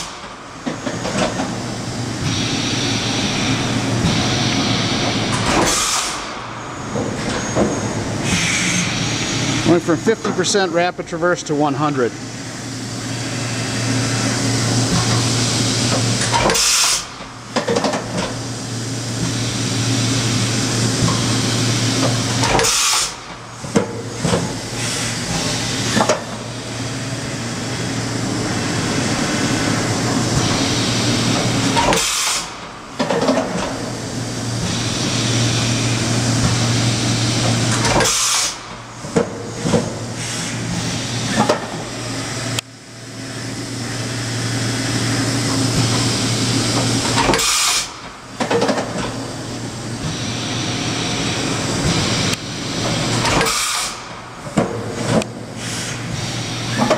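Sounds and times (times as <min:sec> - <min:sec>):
machining center humming and hissing: 0:00.0 - 0:56.9.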